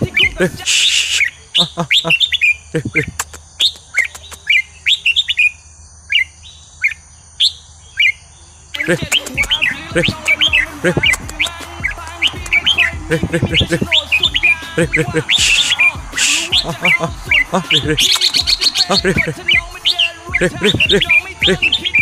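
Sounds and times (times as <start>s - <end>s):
bird singing chirping phrases: 0.0s - 22.0s.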